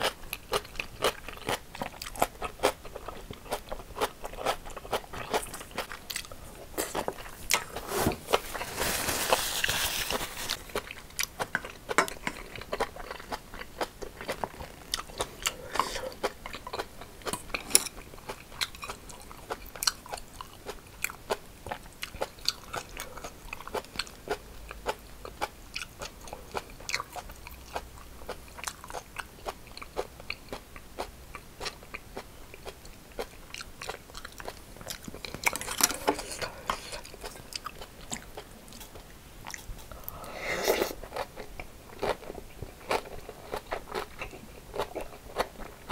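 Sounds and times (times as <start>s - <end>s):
crunchy chewing: 0.0s - 45.9s.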